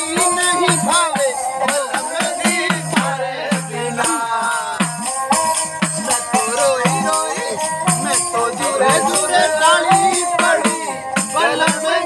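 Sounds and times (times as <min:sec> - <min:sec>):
bowled stick fiddle melody: 0:00.0 - 0:12.0
jingle tambourine rhythm: 0:00.0 - 0:12.0.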